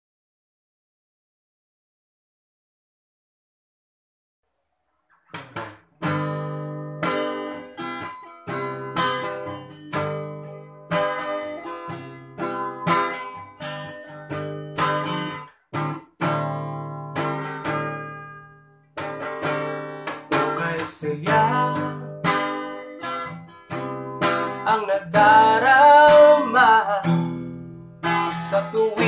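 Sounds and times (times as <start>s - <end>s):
acoustic guitar strumming chords: 5.3s - 29.0s.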